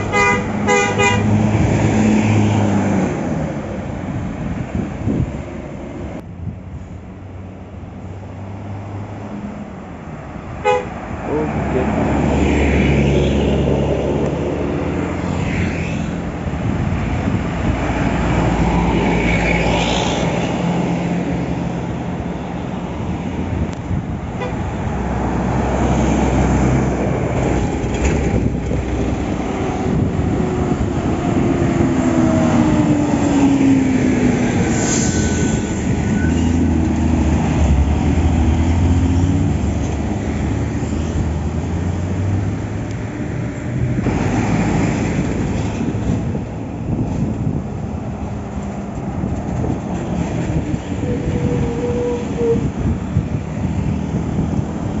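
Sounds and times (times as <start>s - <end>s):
buses and traffic passing: 0.0s - 55.0s.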